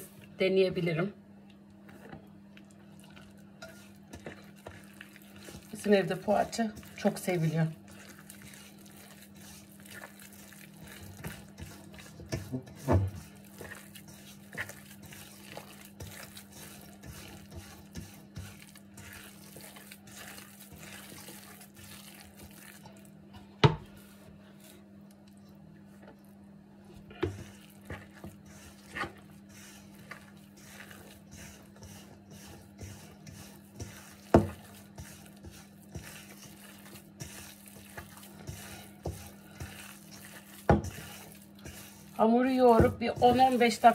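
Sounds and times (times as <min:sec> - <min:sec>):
hands kneading dough: 0:01.7 - 0:43.9.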